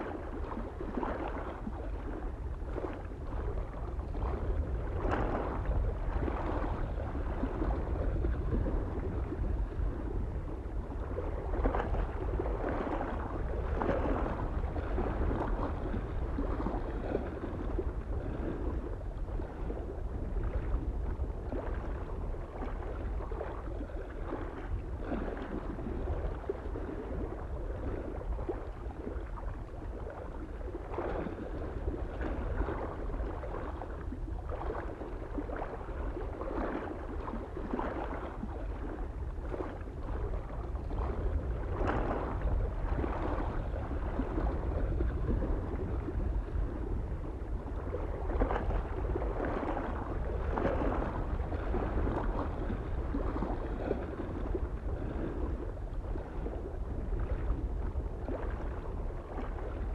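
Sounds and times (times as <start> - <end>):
low rumble of wind: 0.0 - 59.9
small waves lapping on shore: 0.0 - 59.9.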